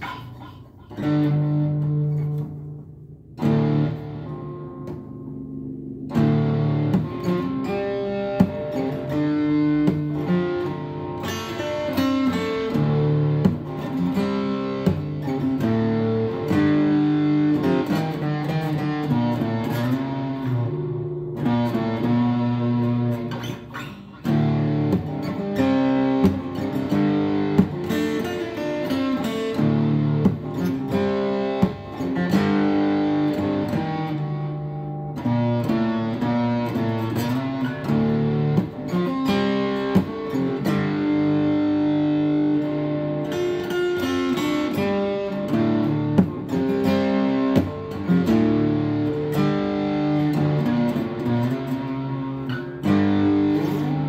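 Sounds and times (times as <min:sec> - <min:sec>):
acoustic guitar: 0:00.0 - 0:54.0.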